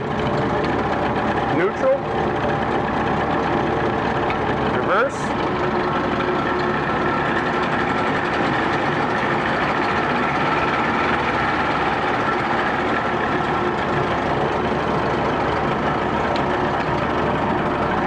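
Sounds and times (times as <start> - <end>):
two-stroke outboard motor running: 0.0 - 18.0.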